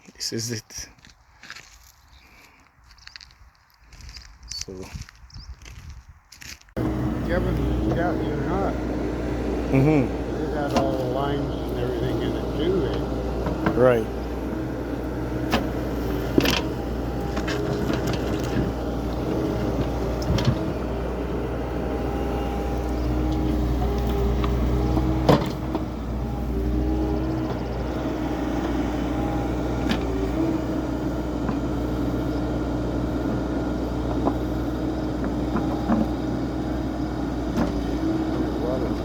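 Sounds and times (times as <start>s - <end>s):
engine running steadily: 6.8s - 39.0s.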